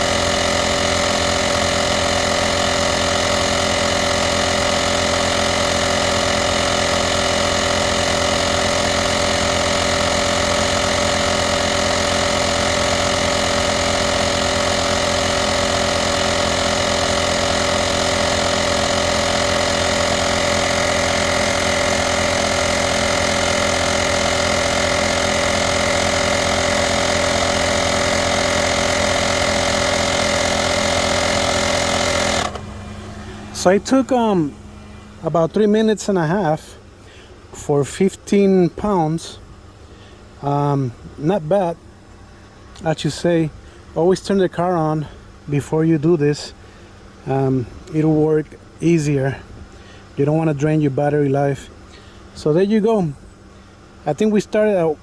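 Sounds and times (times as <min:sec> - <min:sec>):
air compressor pulsing: 0:00.0 - 0:55.0.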